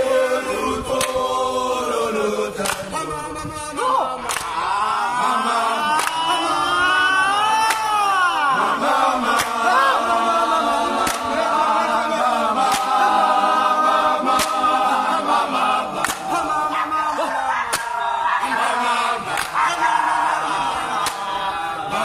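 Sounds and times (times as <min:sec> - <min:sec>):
men singing in chorus: 0:00.0 - 0:22.0.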